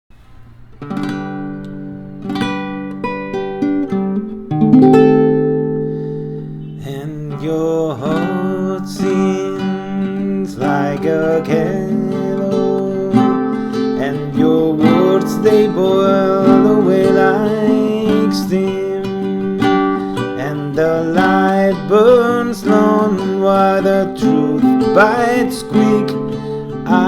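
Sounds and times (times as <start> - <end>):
acoustic guitar strumming: 0.1 - 27.0.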